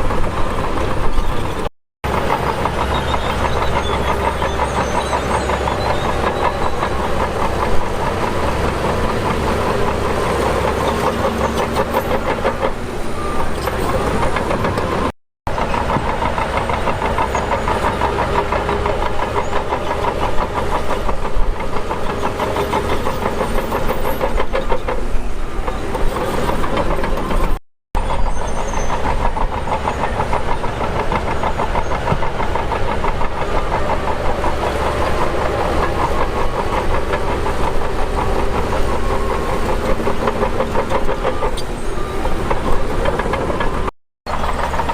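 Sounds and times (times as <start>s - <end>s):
heavy diesel engine rumbling: 0.0s - 44.9s.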